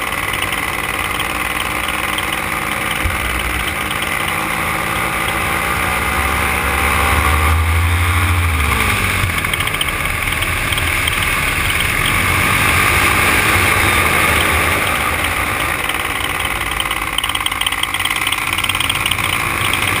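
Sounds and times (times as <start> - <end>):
paramotor engine and propeller: 0.0 - 20.0.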